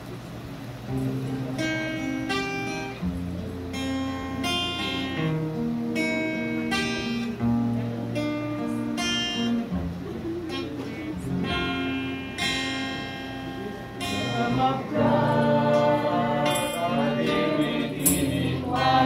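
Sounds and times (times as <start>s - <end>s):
acoustic guitar strumming chords: 0.7s - 19.0s.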